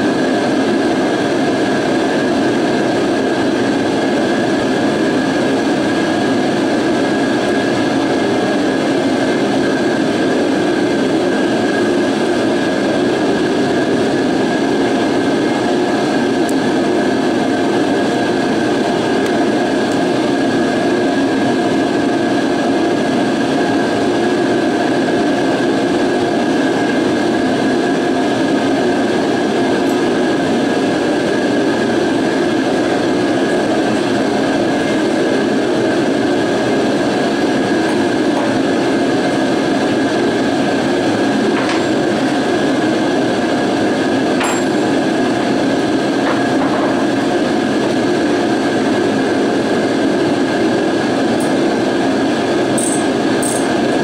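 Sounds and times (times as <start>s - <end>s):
heater running with faint whine: 0.0s - 54.0s.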